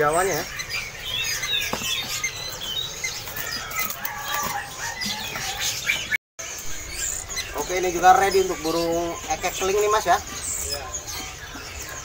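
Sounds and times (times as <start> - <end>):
songbirds chirping and whistling: 0.0 - 12.0.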